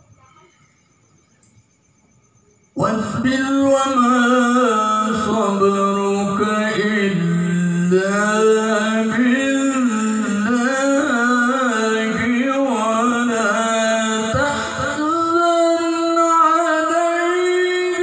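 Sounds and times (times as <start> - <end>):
man reciting melodically: 2.7 - 18.0.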